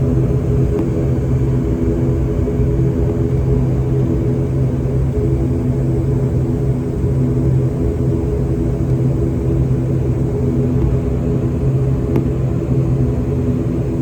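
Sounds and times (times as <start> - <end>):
airliner engines humming in cabin: 0.0 - 14.0.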